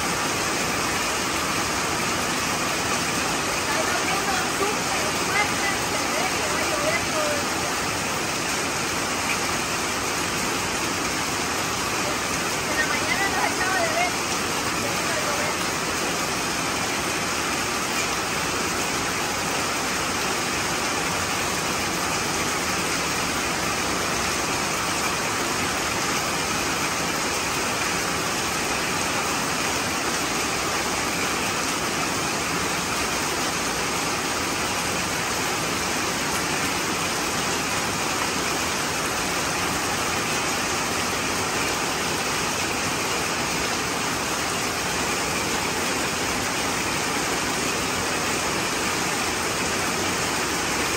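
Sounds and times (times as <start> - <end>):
water pouring from downspout: 0.0 - 50.9
water splashing on concrete: 0.0 - 50.9.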